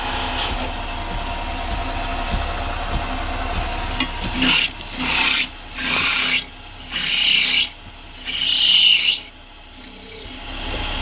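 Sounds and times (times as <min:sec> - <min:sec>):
lathe tool scraping wood: 0:00.0 - 0:11.0.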